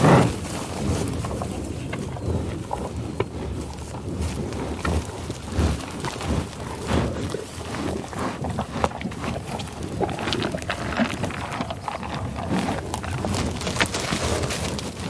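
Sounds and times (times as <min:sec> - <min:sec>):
bison crunching grass: 0:00.0 - 0:15.0
bison snuffling breaths: 0:00.0 - 0:15.0.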